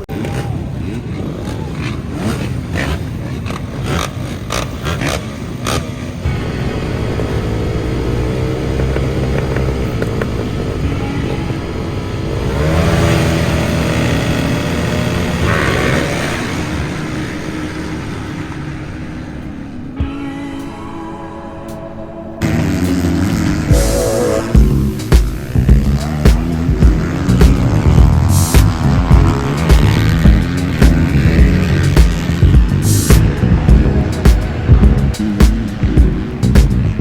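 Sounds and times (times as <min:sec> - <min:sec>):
dirt bike engine revving: 0:00.0 - 0:19.8, 0:22.4 - 0:37.0.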